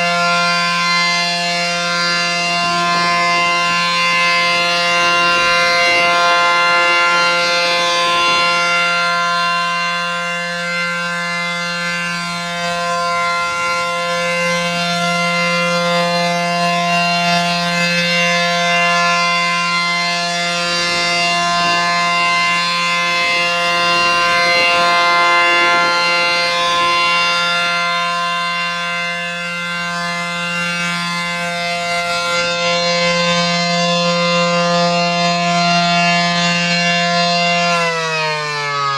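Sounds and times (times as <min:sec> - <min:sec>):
outdoor warning siren wailing: 0:00.0 - 0:38.9.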